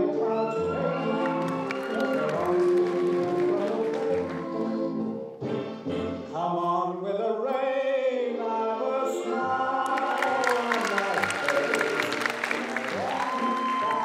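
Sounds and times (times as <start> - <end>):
music with sung vocals: 0.0 - 14.0.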